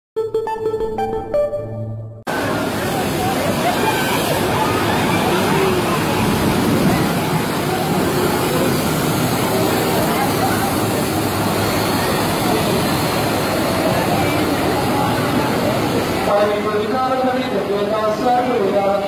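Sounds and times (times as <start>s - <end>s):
crowd chattering: 2.3s - 19.0s
train splashing through water: 2.3s - 19.0s.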